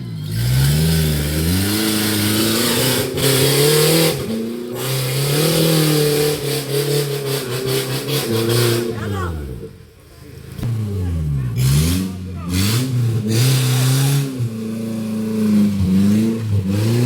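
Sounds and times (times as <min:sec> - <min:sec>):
engine revving under load: 0:00.0 - 0:09.8, 0:10.5 - 0:17.0.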